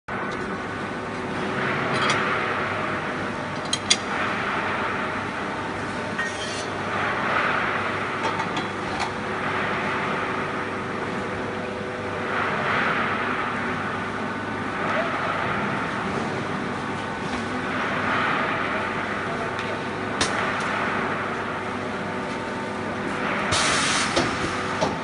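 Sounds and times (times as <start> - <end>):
welding machine running: 0.1 - 25.0.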